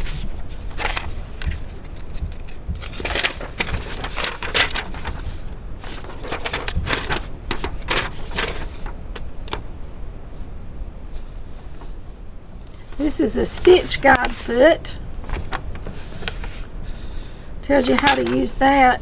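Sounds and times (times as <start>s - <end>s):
paper crinkling and rustling: 0.0s - 9.9s, 11.1s - 19.0s.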